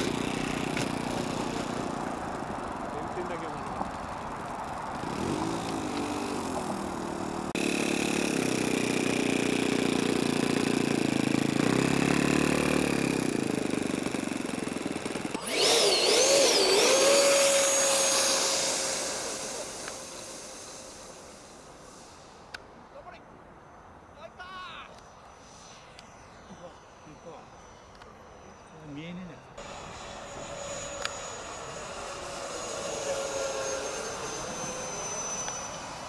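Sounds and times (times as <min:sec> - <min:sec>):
model aircraft propeller motor: 0:00.0 - 0:22.6, 0:25.0 - 0:36.0
electric ducted fan whine: 0:00.0 - 0:36.0.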